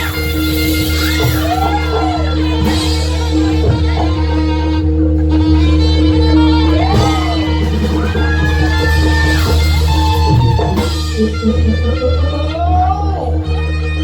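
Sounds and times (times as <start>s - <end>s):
band playing live: 0.0s - 14.0s
sliding melody: 0.0s - 14.0s.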